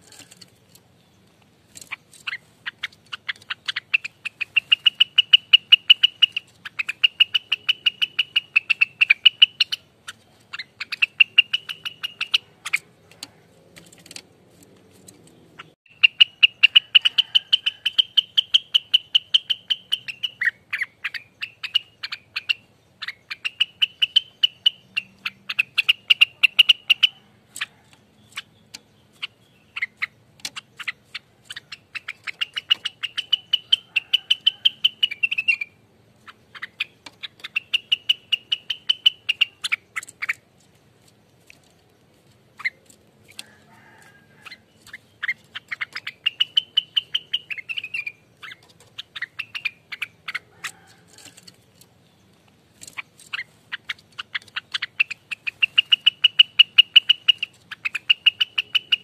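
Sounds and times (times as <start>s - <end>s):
bird singing chattering song: 0.0s - 59.0s.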